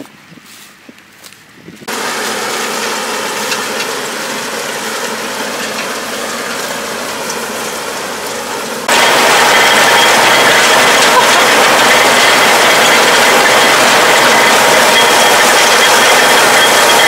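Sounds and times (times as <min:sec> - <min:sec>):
tractor and baler running: 0:01.8 - 0:17.0.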